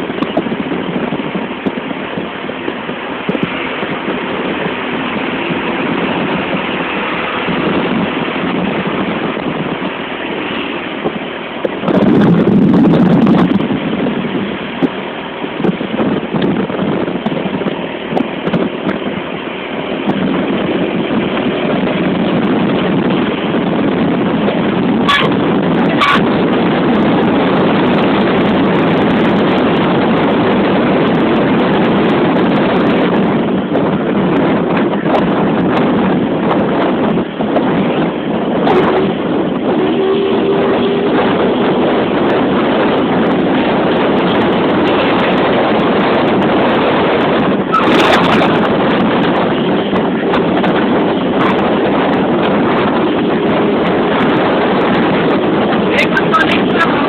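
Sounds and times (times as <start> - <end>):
low rumble: 0.0 - 57.0
road traffic noise: 0.0 - 57.0
wind buffeting microphone: 0.0 - 57.0.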